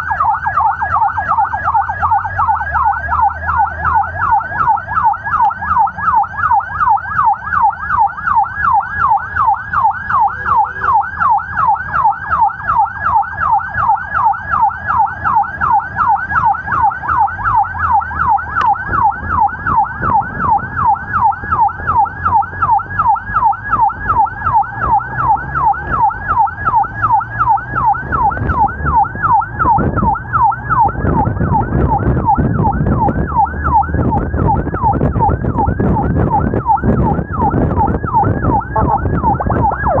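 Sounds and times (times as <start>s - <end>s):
emergency siren yelping: 0.0s - 40.0s
road and engine rumble: 0.0s - 40.0s.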